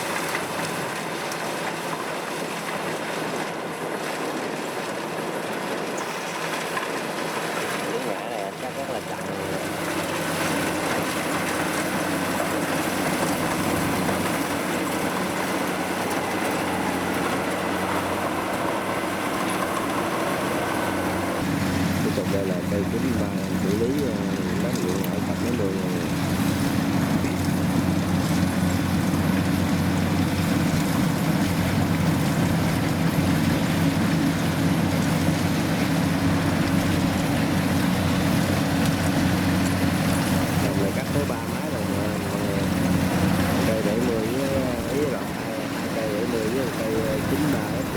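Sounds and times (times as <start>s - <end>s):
combine harvester diesel engine: 0.0s - 47.9s.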